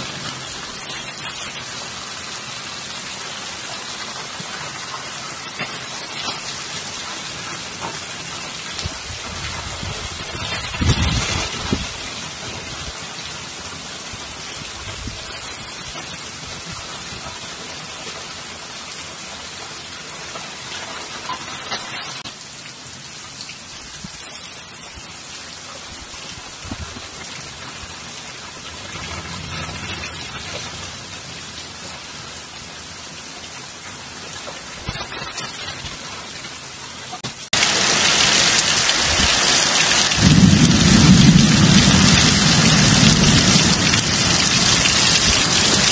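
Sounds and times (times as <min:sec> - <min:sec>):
heavy rain pouring: 0:00.0 - 0:45.9.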